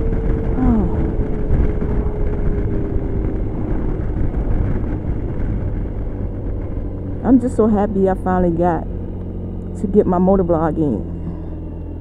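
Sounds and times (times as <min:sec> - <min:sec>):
scooter engine cruising: 0:00.0 - 0:12.0
steady hum: 0:00.0 - 0:12.0
wind on microphone: 0:00.0 - 0:12.0.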